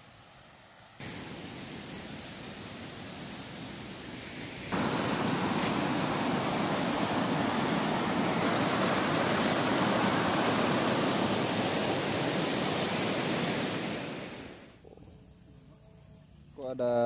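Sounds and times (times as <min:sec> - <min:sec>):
stream rushing over rocks: 0:01.0 - 0:14.7.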